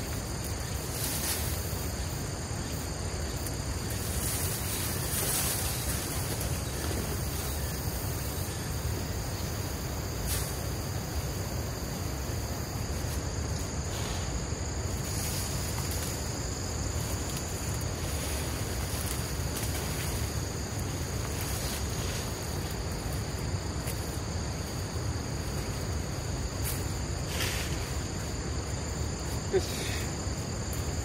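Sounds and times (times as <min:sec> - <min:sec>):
insects trilling: 0:00.0 - 0:31.0
vegetation rustling: 0:00.0 - 0:31.0.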